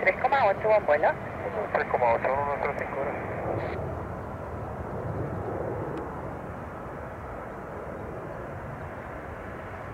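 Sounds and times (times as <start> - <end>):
jet engine rumble: 0.0 - 9.9.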